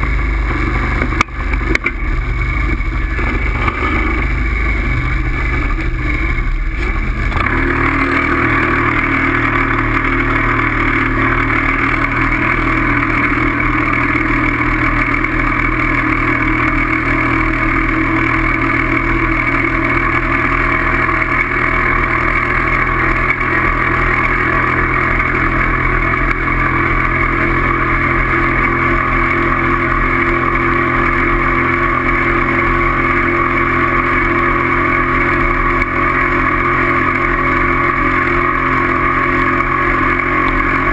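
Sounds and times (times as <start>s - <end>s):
vehicle running noise: 0.0s - 40.9s.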